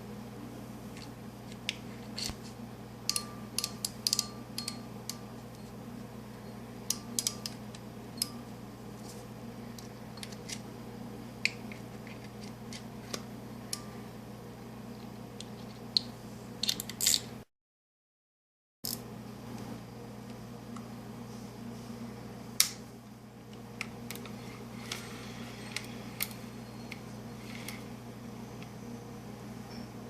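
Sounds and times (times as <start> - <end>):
steady low hum: 0.0 - 17.5, 18.9 - 30.0.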